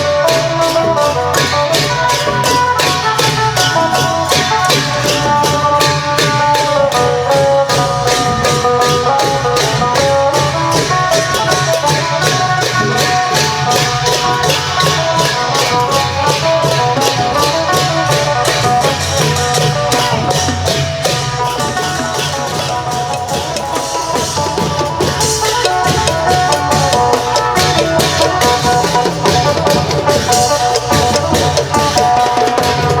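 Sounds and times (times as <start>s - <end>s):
long drums: 0.0s - 33.0s
lute melody: 0.0s - 33.0s.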